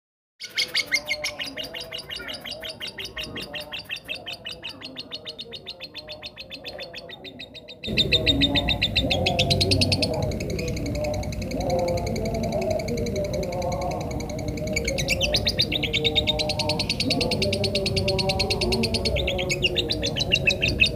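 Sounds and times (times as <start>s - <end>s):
lovebird chirping trill: 0.4s - 20.9s.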